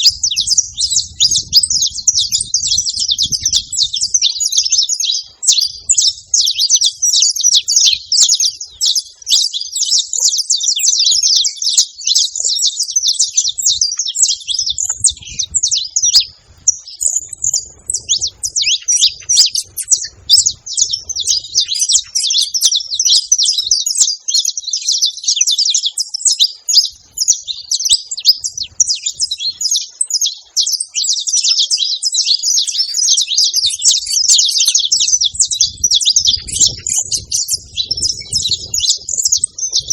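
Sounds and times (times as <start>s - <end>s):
finch singing rapid chirps: 0.0s - 39.9s.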